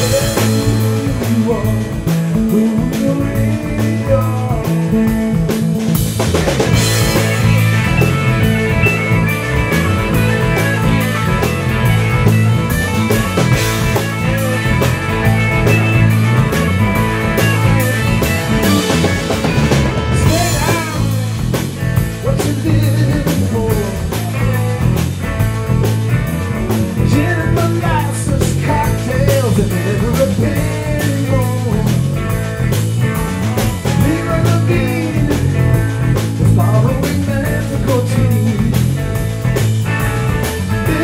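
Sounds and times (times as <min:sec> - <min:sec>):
rock band playing live: 0:00.0 - 0:41.0.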